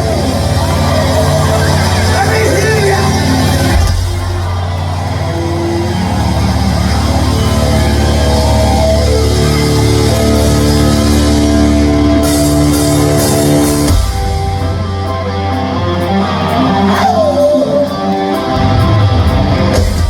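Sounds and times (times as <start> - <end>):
live rock band music: 0.0 - 20.0.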